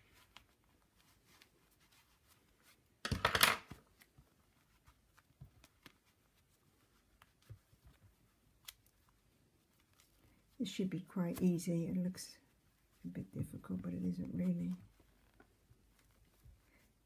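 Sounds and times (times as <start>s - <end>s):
fabric rustle: 0.0s - 17.0s.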